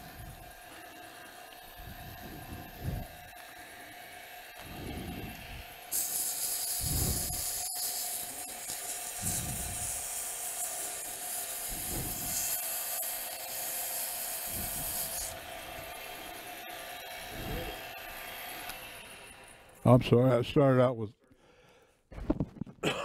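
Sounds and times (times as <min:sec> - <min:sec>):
sanding pad hissing on wood: 0:00.0 - 0:19.1
lathe motor humming: 0:00.0 - 0:19.8.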